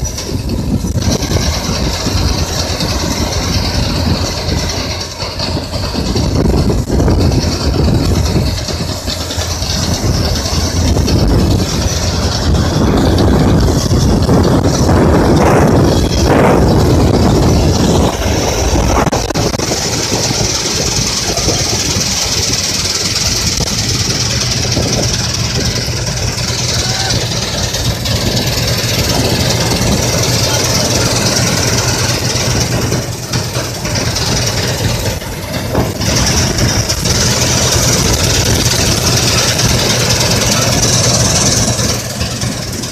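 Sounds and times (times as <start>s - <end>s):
combine harvester engine drone: 0.0s - 42.9s
steady high whine: 0.0s - 42.9s.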